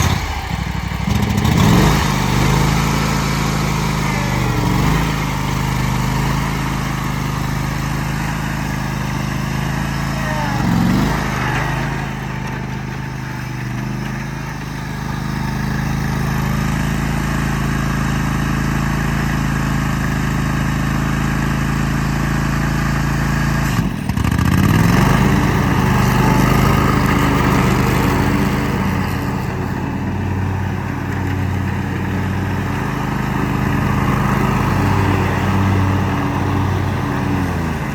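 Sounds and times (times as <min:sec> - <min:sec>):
lawn tractor engine running: 0:00.0 - 0:37.9.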